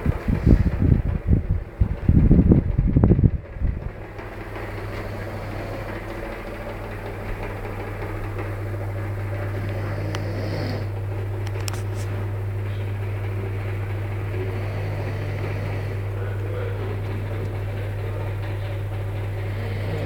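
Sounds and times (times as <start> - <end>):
loud low rumble: 0.0 - 20.0
low mechanical hum: 0.0 - 20.0.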